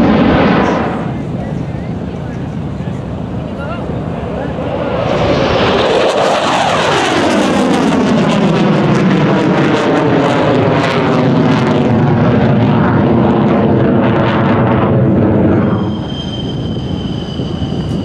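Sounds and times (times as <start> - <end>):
jet roar with crackle: 0.0 - 3.0, 4.2 - 18.0.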